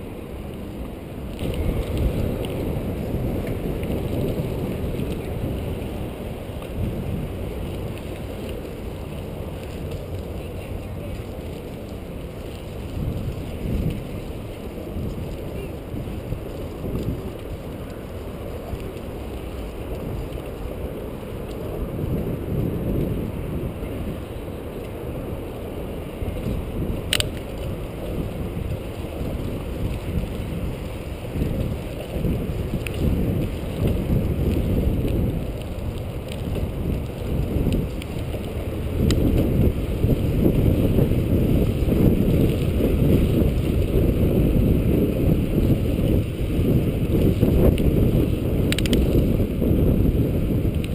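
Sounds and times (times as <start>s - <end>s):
bicycle rumble on pavement: 0.0s - 50.9s
wind buffeting microphone: 0.0s - 50.9s.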